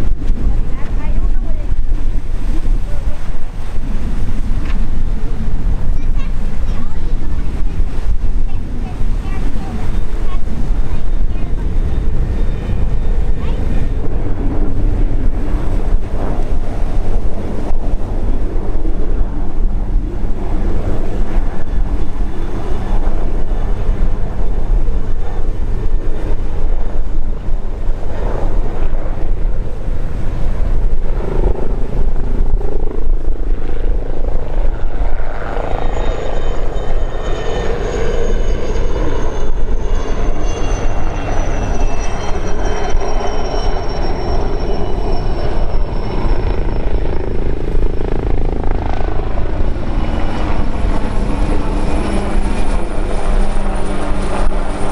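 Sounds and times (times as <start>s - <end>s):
helicopter rotor and turbine noise: 0.0s - 54.9s
high turbine whine: 0.0s - 54.9s.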